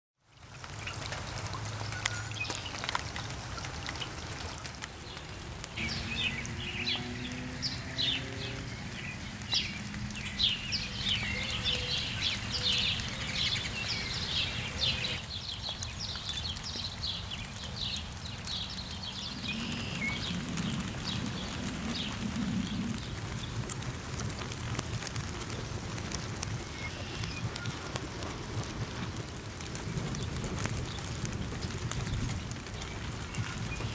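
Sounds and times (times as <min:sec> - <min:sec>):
steady rainfall: 0:00.2 - 0:33.9.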